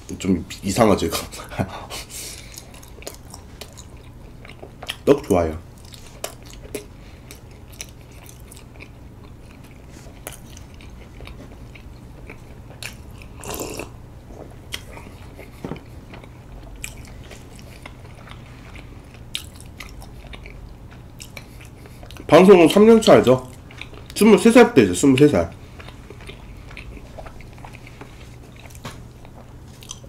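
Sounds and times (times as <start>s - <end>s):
low steady hum: 0.0s - 30.0s
person chewing sticky food: 1.2s - 30.0s.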